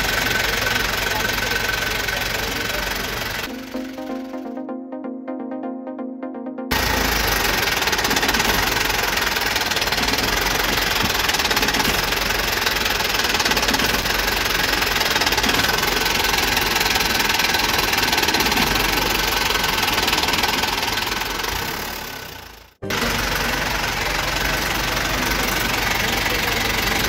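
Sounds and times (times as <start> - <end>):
vehicle engine idling with rattle: 0.0 - 3.5, 6.8 - 27.0.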